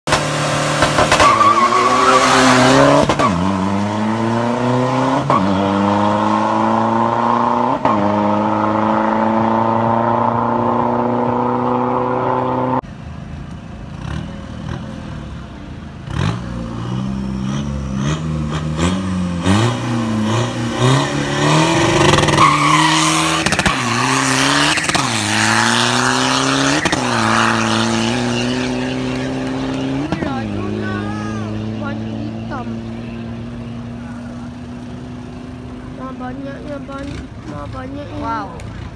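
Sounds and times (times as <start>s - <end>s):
diesel engine accelerating: 0.1s - 38.9s.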